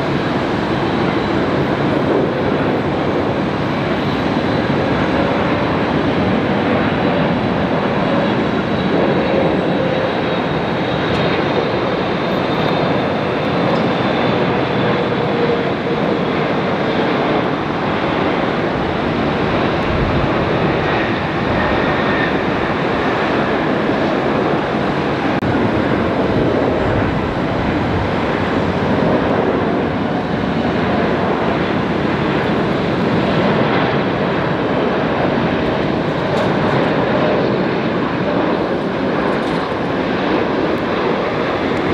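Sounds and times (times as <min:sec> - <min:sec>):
loud jet engine noise: 0:00.0 - 0:41.9.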